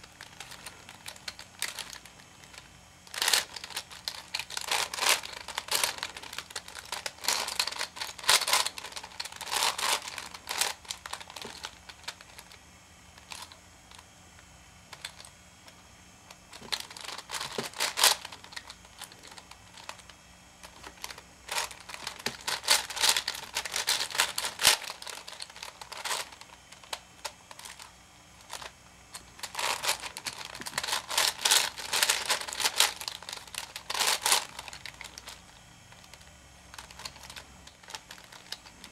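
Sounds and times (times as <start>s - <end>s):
puzzle cube clicking and rattling: 0.1s - 12.6s, 16.5s - 38.9s.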